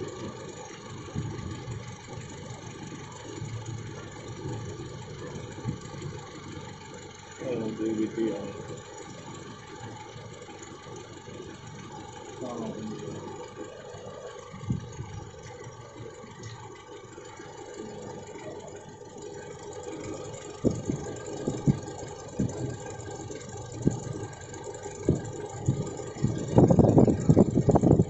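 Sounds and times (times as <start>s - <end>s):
short low engine thumps: 0.0s - 10.7s, 14.4s - 28.0s
car engine idling: 0.0s - 28.0s.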